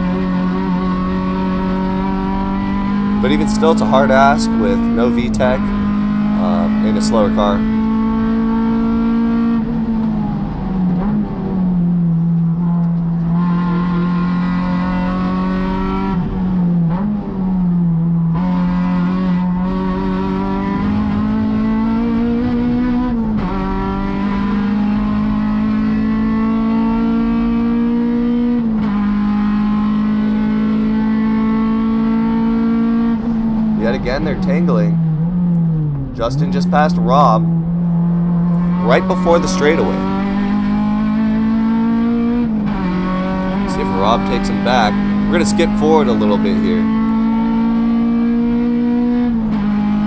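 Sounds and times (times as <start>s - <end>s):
car engine at racing speed: 0.0s - 50.0s.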